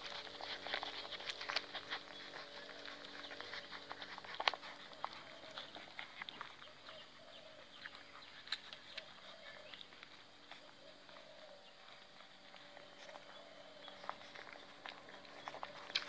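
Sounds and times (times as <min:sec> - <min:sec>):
puppies suckling wet smacks: 0:00.0 - 0:16.0.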